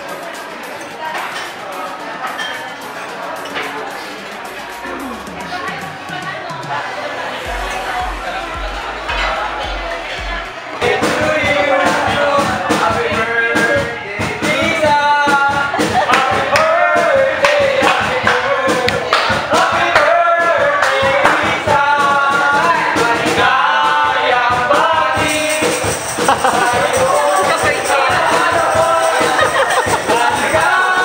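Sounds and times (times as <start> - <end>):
percussion beat: 2.3 - 31.0
person singing: 4.4 - 31.0.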